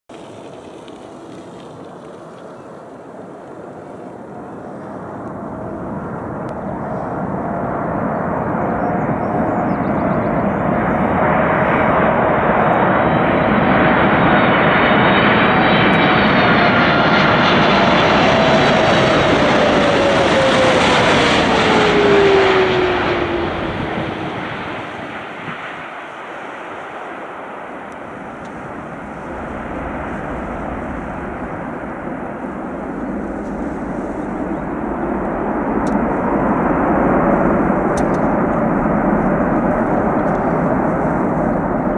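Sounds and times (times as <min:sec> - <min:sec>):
jet engine noise: 0:00.1 - 0:41.9
engine whine gliding down: 0:03.8 - 0:41.9.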